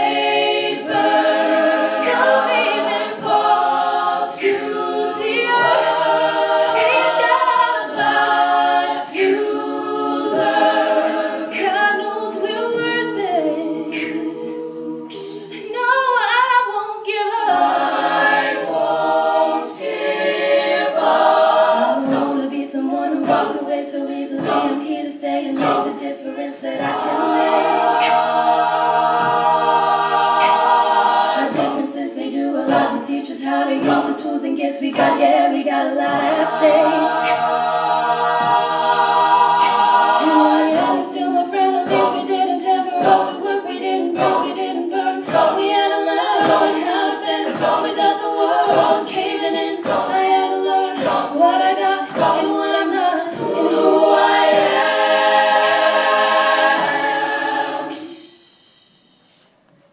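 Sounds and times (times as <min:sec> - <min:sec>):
regular beat: 0:00.0 - 0:15.6, 0:17.6 - 0:59.0
women singing a cappella harmony: 0:00.0 - 0:59.4.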